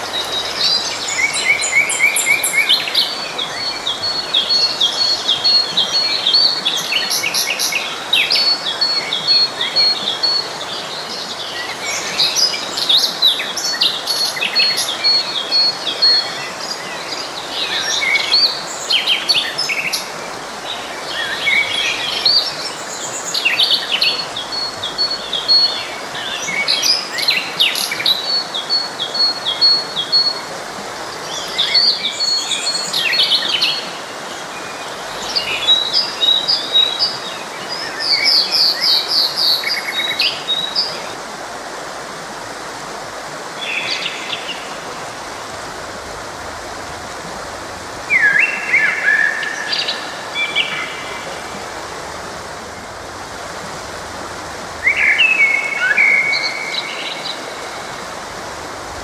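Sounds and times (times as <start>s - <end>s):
forest stream rushing: 0.0s - 59.0s
songbirds chirping and trilling: 0.0s - 59.0s.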